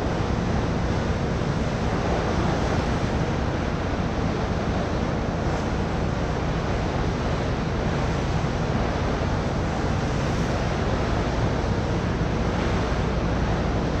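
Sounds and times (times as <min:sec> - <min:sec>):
moving seawater: 0:00.0 - 0:14.0.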